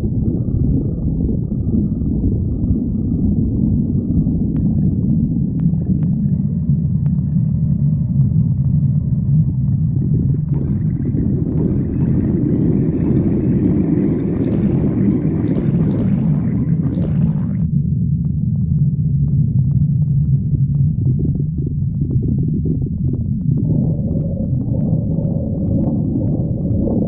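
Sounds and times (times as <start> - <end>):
stomach growling: 0.0 - 27.0
stomach gurgling: 0.0 - 27.0.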